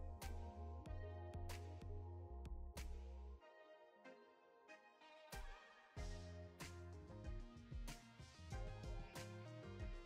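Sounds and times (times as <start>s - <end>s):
electronic background music: 0.0s - 10.0s.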